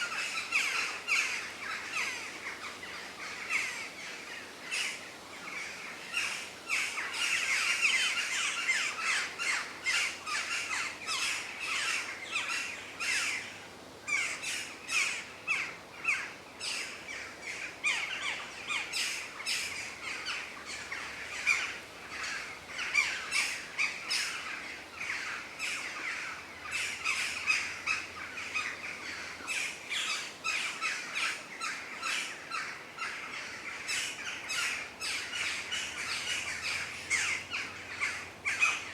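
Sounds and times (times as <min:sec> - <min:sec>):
birds calling and singing: 0:00.0 - 0:38.9.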